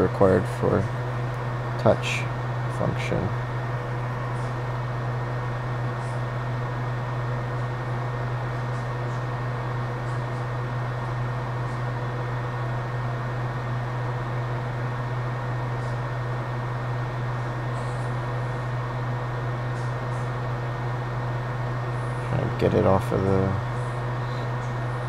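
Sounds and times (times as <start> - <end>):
machine hum with fan rushing: 0.0 - 25.0.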